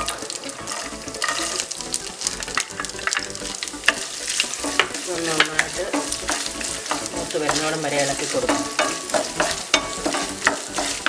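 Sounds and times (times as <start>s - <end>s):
coconut sizzling in hot oil: 0.0s - 11.0s
wooden spatula stirring: 0.0s - 11.0s.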